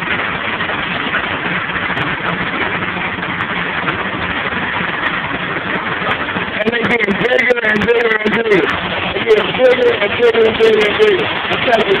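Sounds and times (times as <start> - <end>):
hail falling on pavement: 0.0 - 12.0
vehicle engine idling: 0.0 - 12.0.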